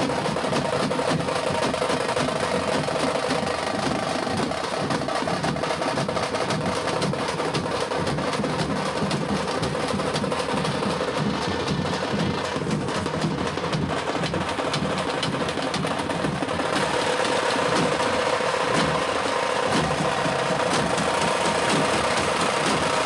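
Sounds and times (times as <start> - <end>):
frame drums beaten with sticks: 0.0 - 23.0.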